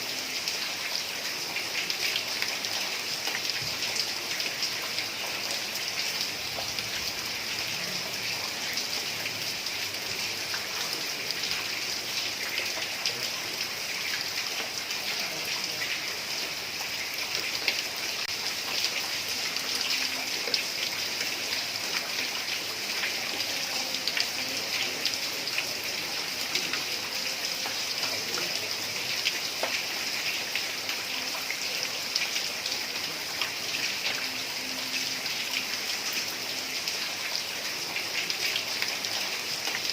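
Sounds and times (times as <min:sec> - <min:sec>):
heavy rain on roof tiles: 0:00.0 - 0:39.9.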